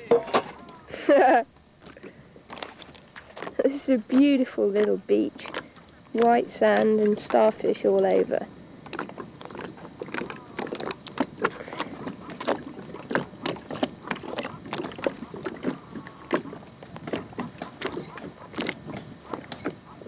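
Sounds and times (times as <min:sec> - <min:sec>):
small waves slapping boat hull: 0:01.8 - 0:20.0.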